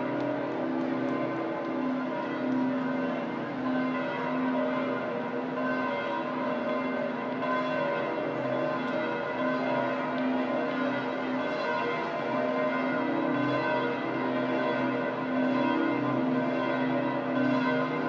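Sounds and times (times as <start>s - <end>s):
church bells pealing: 0.0s - 18.0s.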